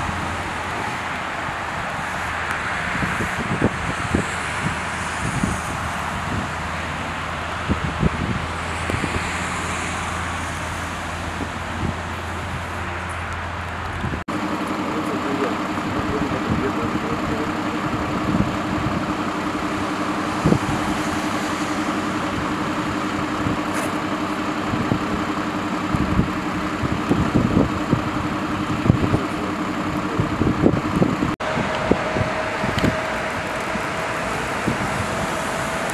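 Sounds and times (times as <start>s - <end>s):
vehicle engines idling: 0.0s - 35.9s.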